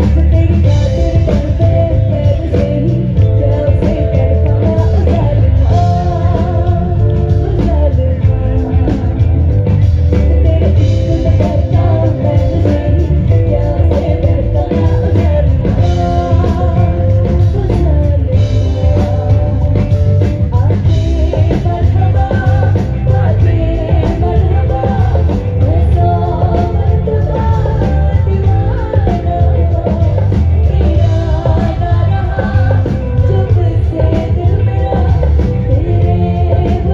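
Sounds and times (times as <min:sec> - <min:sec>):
drums: 0:00.0 - 0:36.9
electric guitar: 0:00.0 - 0:36.9
heavy bass: 0:00.0 - 0:36.9
person singing: 0:00.0 - 0:36.9.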